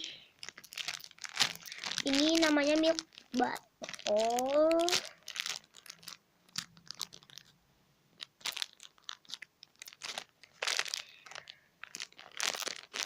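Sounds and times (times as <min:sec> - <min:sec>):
plastic packaging crinkling: 0:00.0 - 0:07.6, 0:08.2 - 0:13.0.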